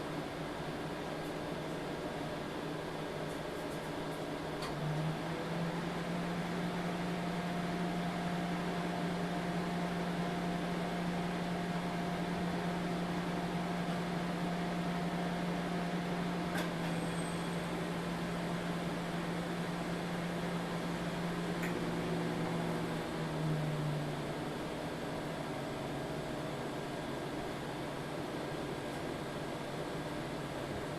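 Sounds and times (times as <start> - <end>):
microwave oven humming: 0.0 - 30.9.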